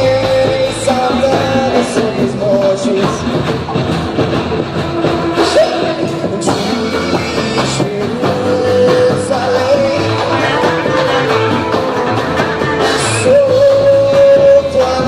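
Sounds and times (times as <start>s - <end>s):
person singing lead vocal: 0.0s - 4.0s, 5.0s - 15.0s
rock band playing live: 0.0s - 15.0s.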